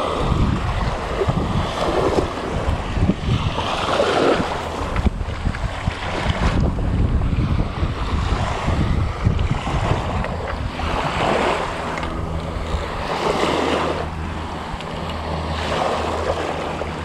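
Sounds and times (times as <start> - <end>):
low steady hum: 0.0 - 17.0
small waves lapping on shore: 0.0 - 17.0
wind buffeting microphone: 0.0 - 17.0.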